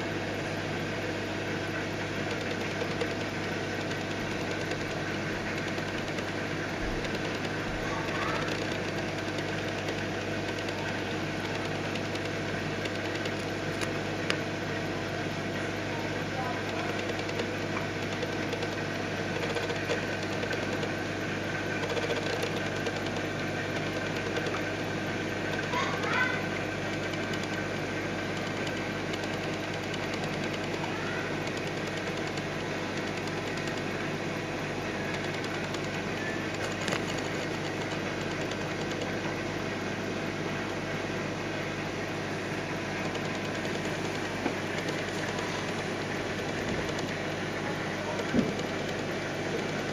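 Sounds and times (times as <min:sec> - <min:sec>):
aquarium equipment humming: 0:00.0 - 0:49.9.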